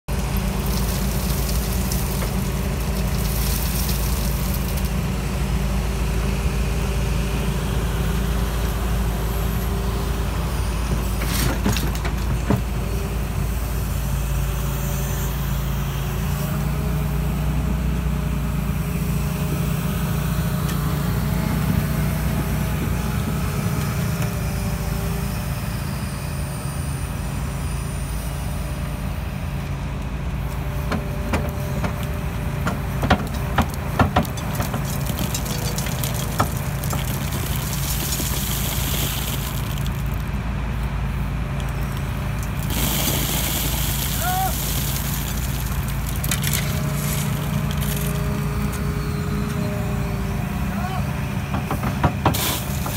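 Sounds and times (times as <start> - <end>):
excavator diesel engine running: 0.1 - 52.9.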